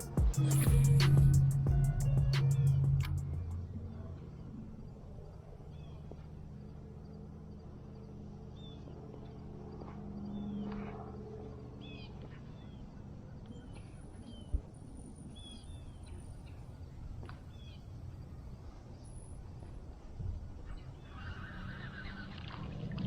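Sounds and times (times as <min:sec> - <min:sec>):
low rumble of wind: 0:00.0 - 0:23.0.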